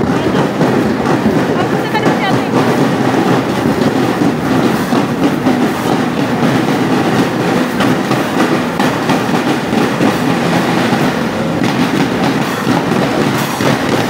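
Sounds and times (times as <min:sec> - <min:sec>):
snare and bass drums marching: 0:00.0 - 0:14.0.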